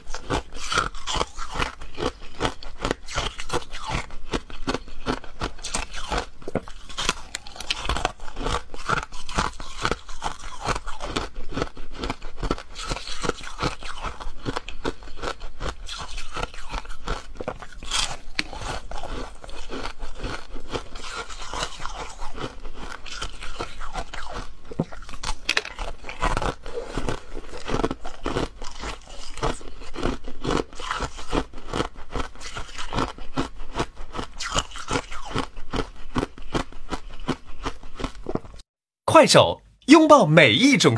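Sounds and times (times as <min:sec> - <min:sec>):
ice being chewed with crunches: 0:00.0 - 0:38.6.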